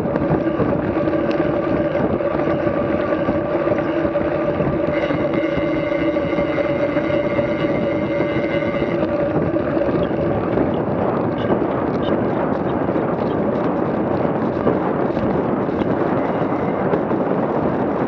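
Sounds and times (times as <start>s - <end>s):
rushing noise: 0.0s - 17.2s
engine humming: 0.0s - 18.0s.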